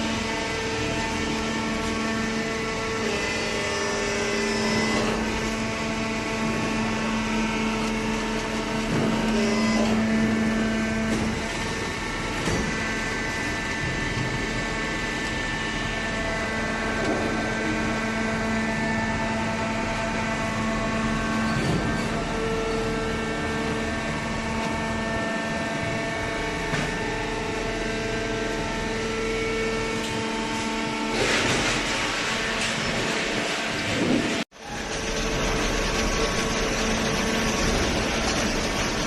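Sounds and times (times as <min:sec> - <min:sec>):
baler machine hum: 0:00.0 - 0:39.0.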